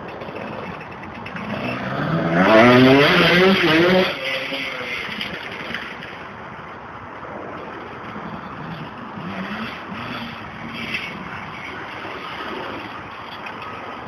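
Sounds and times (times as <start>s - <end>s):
distant dirt bike engine: 0.0s - 14.0s.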